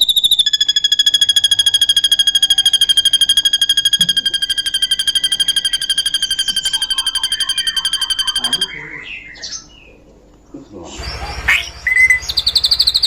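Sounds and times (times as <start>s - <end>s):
bird whistling trill: 0.0s - 10.0s, 11.0s - 13.0s.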